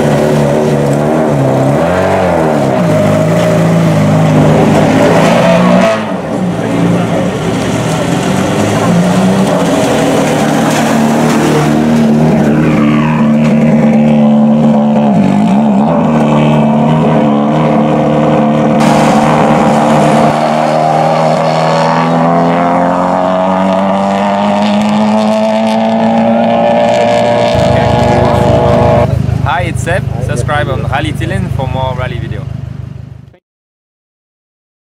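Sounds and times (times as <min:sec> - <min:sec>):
car engine at low revs: 0:00.0 - 0:33.4.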